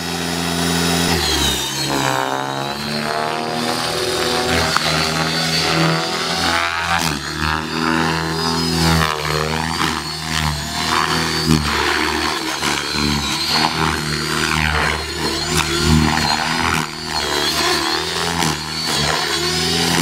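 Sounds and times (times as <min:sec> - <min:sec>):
helicopter rotor and motor whine: 0:00.0 - 0:20.0.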